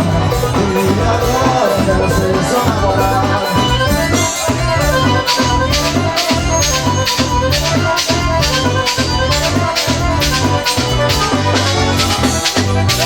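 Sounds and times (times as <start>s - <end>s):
accordion melody: 0.0s - 13.0s
bass line: 0.0s - 13.0s
steady percussion beat: 0.0s - 13.0s.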